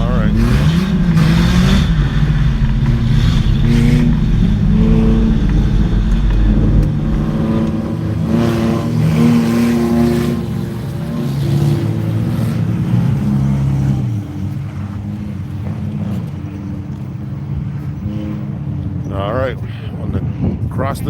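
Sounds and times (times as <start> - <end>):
stock car engines revving: 0.0 - 21.0.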